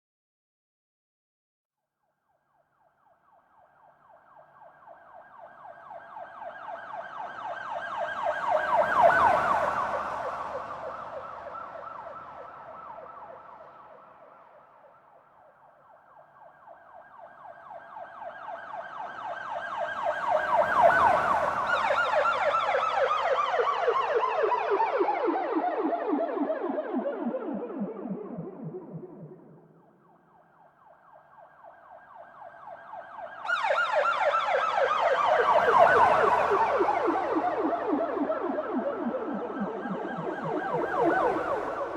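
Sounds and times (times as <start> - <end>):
police siren warbling: 4.6 - 14.1, 16.6 - 41.9.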